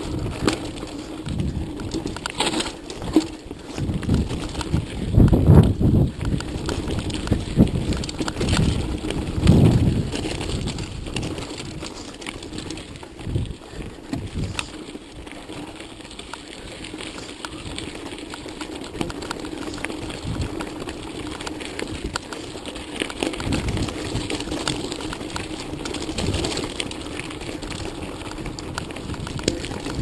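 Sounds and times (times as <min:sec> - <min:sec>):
mountain bike rattling over rocks: 0:00.0 - 0:30.0.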